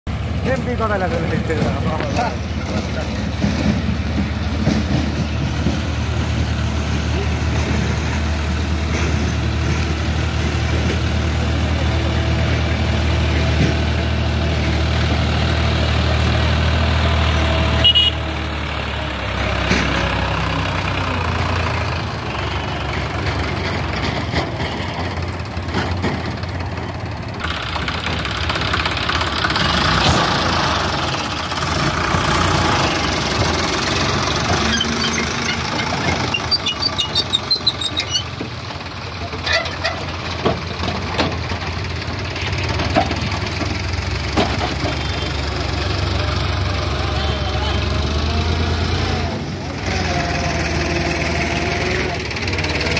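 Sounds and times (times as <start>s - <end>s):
tractor diesel engine running: 0.1s - 52.9s.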